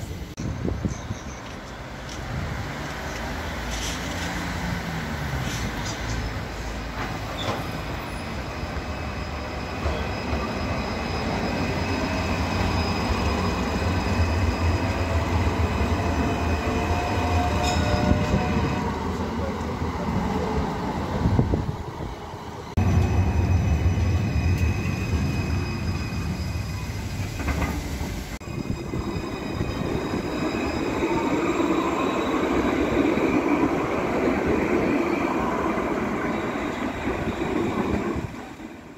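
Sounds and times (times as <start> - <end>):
tram wheels rumbling on rail: 0.0 - 38.9.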